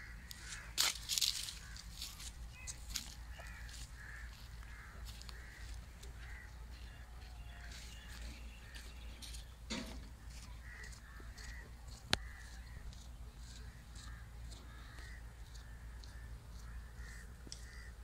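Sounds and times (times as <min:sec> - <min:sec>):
crows cawing: 0:00.0 - 0:09.4, 0:10.2 - 0:18.0
steady low hum: 0:00.0 - 0:18.0.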